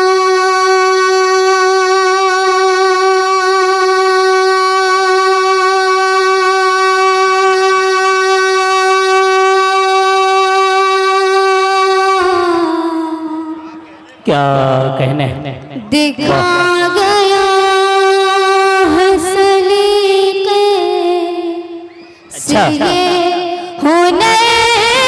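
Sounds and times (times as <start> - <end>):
woman singing a long note: 0.0 - 13.6, 15.9 - 21.9, 22.5 - 25.0.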